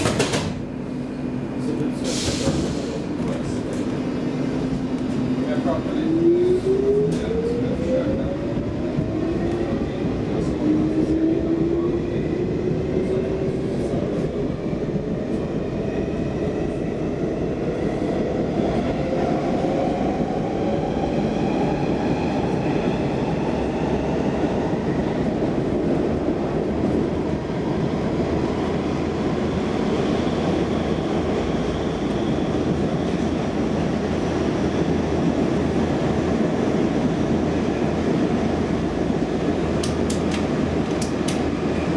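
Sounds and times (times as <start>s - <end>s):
train wheels on rail: 0.0s - 41.9s.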